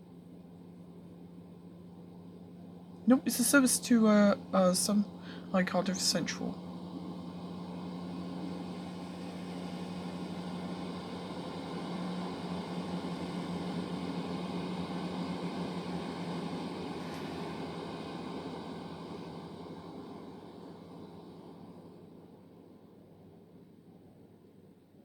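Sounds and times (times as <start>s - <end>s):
train engine hum: 0.0s - 24.4s.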